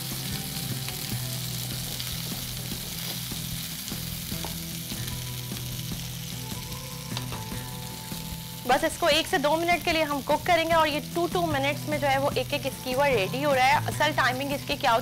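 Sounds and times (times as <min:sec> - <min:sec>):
kebabs sizzling in a pan: 0:00.0 - 0:15.0.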